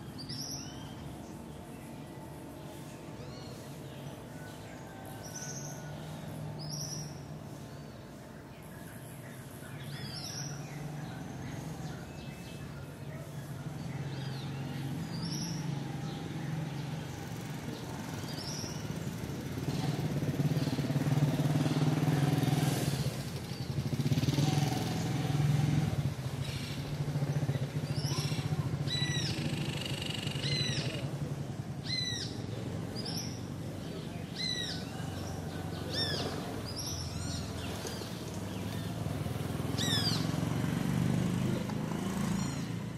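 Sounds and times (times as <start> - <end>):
birds chirping: 0.0 - 42.9
vehicle engine humming: 0.0 - 42.9.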